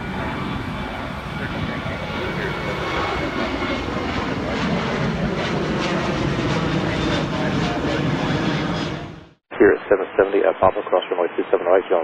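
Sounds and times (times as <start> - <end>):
jet engines overhead: 0.0 - 12.0.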